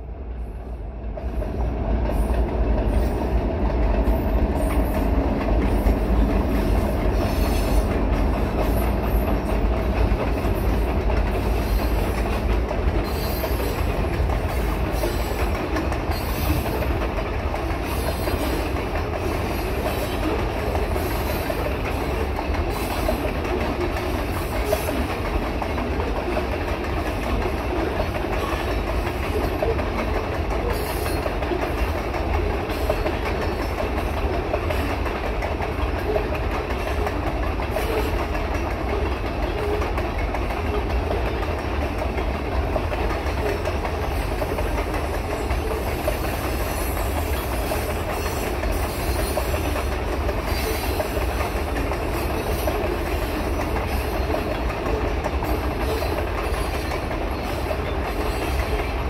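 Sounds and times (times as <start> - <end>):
freight train rumbling: 0.0 - 59.0
wheels clacking on rails: 0.0 - 59.0.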